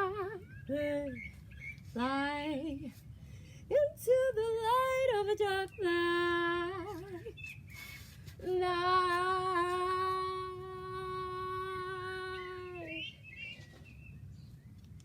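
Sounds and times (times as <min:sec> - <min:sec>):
woman singing unaccompanied: 0:00.0 - 0:07.5, 0:08.4 - 0:13.2.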